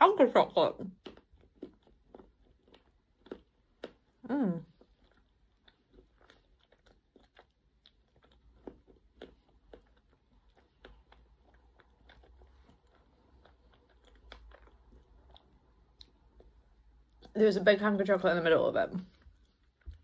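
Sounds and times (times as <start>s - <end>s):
faint chewing with mouth clicks: 0.7s - 17.6s, 19.0s - 20.0s.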